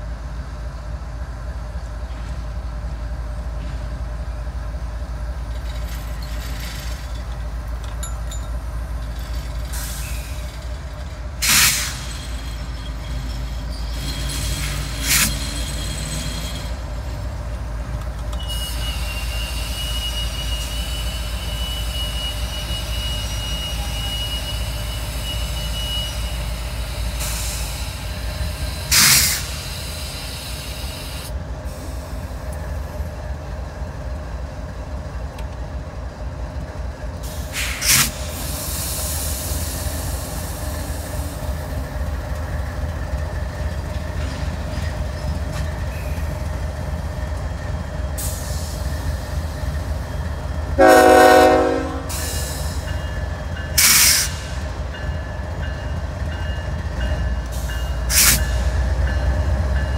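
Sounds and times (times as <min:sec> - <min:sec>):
diesel locomotive rumble: 0:00.0 - 0:59.9
train brakes squealing: 0:05.4 - 0:17.4, 0:18.2 - 0:33.1, 0:37.2 - 0:59.9.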